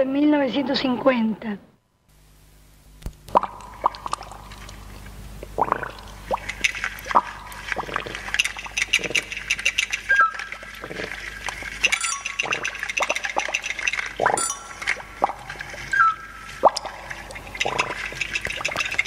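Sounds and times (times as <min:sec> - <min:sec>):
water drops plopping: 0:03.3 - 0:19.0.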